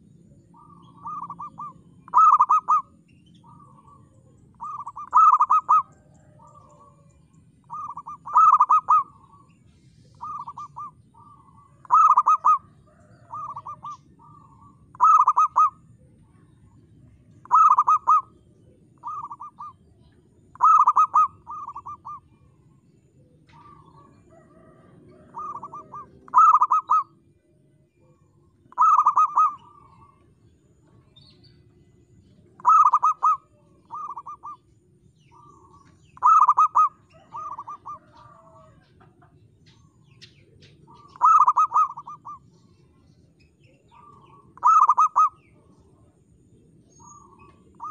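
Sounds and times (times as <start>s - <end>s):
dove cooing: 0.0s - 27.3s, 28.0s - 31.2s, 32.4s - 43.0s, 43.6s - 47.9s.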